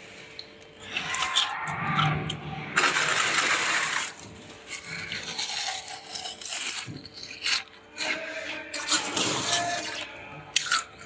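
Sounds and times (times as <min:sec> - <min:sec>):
frost being chewed: 0:00.2 - 0:11.0
fingers scraping freezer frost: 0:00.8 - 0:11.0.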